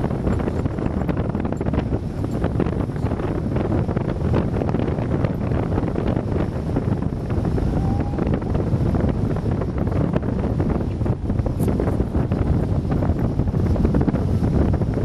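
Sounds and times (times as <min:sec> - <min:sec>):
strong wind on microphone: 0:00.0 - 0:15.0.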